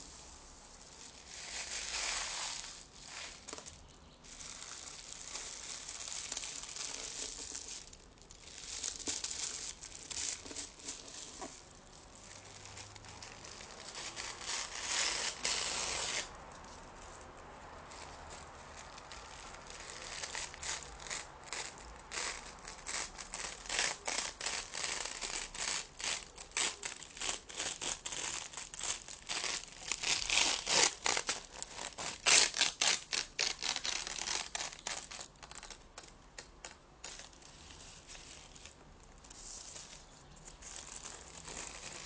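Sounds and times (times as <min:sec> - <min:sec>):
crinkling and rustling: 0:00.0 - 0:42.0.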